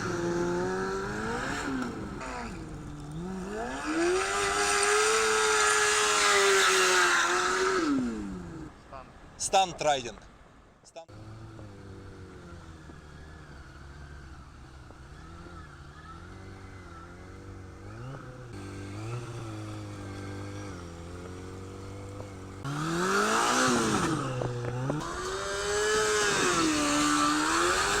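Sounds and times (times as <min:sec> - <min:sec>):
motorcycle engine revving: 0:00.0 - 0:08.8, 0:11.1 - 0:28.0.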